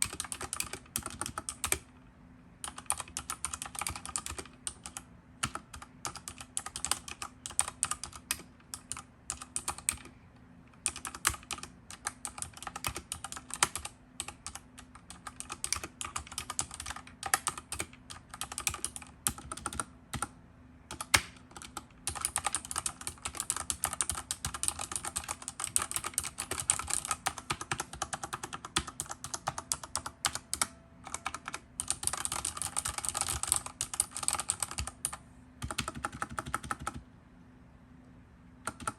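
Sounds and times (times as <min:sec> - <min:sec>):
fast typing on mechanical keyboard: 0:00.0 - 0:01.9, 0:02.6 - 0:10.2, 0:10.8 - 0:20.3, 0:20.9 - 0:37.0, 0:38.6 - 0:38.9.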